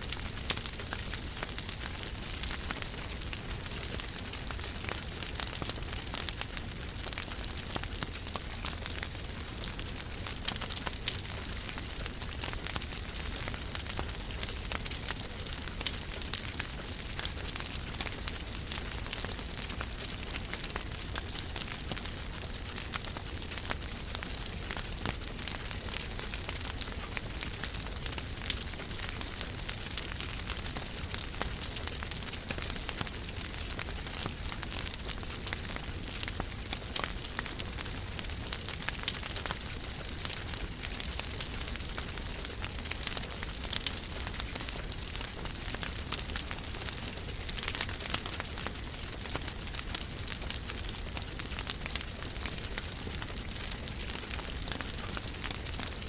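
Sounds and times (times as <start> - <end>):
wood fire hissing and crackling: 0.0 - 56.0.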